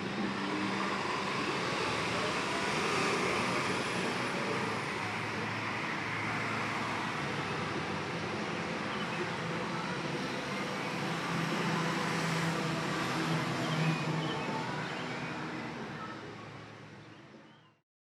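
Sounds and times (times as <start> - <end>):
road traffic passing: 0.0 - 17.4.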